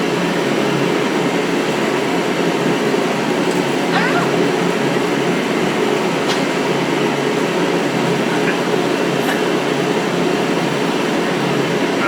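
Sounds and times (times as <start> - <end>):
machine droning: 0.0 - 12.0.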